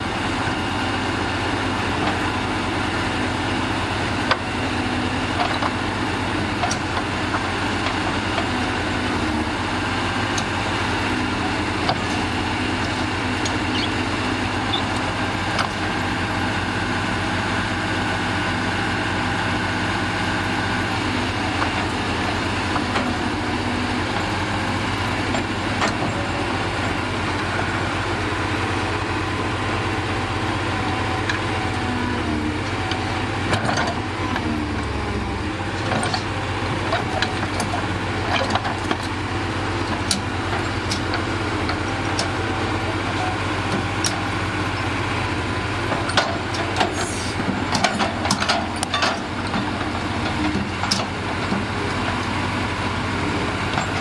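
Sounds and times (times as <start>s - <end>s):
heavy diesel engine idling: 0.0s - 54.0s.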